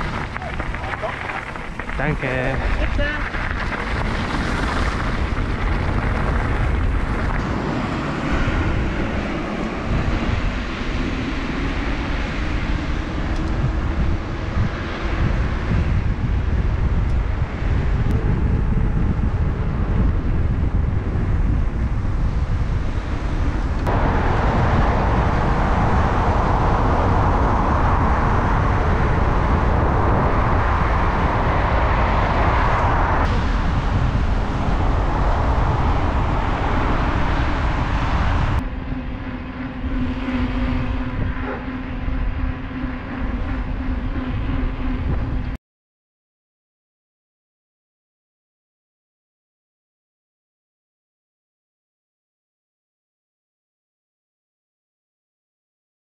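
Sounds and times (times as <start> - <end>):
bike tyres rolling on trail: 0.0 - 45.4
wind buffeting microphone: 0.0 - 45.6.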